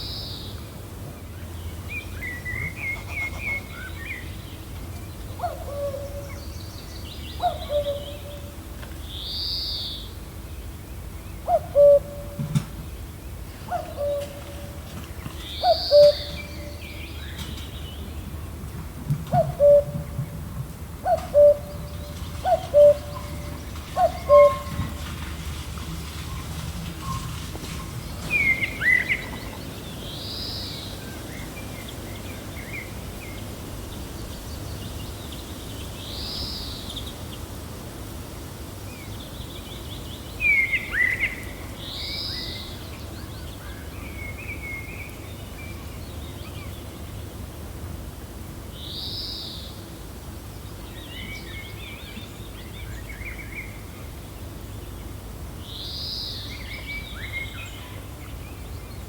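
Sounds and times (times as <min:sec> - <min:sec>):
low wind: 0:00.0 - 0:59.0.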